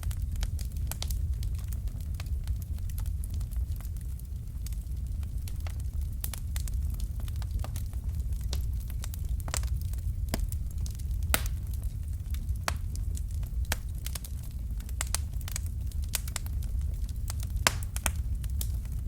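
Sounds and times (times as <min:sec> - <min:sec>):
low rumble of flames: 0:00.0 - 0:19.0
wood fire crackles and pops: 0:00.0 - 0:19.0.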